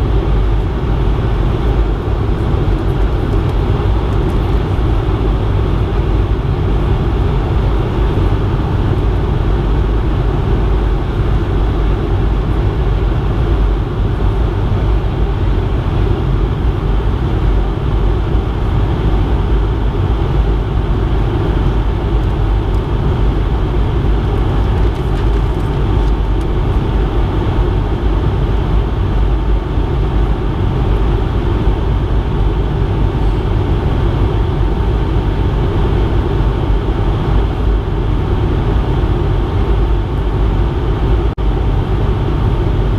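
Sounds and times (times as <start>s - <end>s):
airliner engine and airflow rumble: 0.0s - 42.9s.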